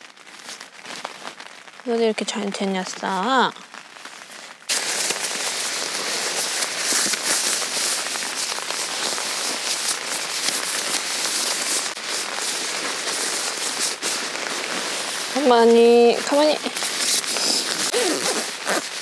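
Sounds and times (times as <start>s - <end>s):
nylon raincoat crinkling: 0.0s - 19.0s
rain pattering on tent fabric: 0.0s - 19.0s.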